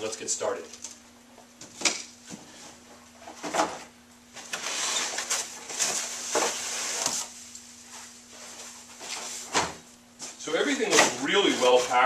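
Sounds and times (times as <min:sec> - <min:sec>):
plastic and cardboard rustling: 0:02.3 - 0:12.0.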